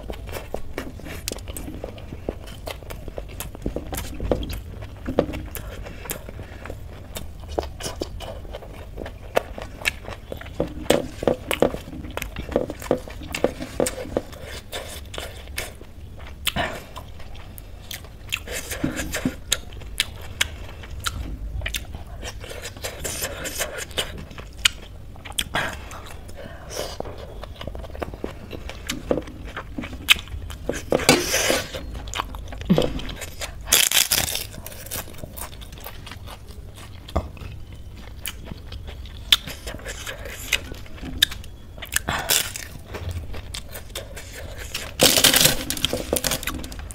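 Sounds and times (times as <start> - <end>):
chewing and mouth smacking: 0.0 - 46.9.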